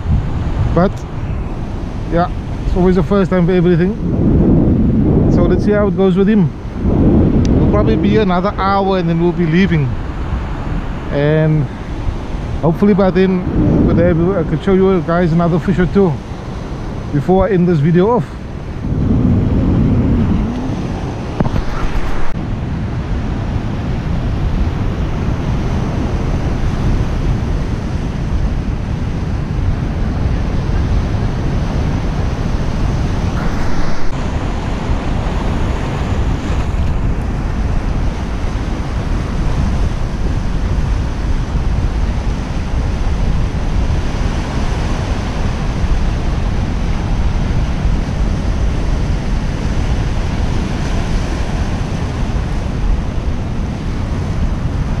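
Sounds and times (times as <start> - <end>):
ocean surf washing onto beach: 0.0 - 55.0
wind on microphone: 0.0 - 55.0.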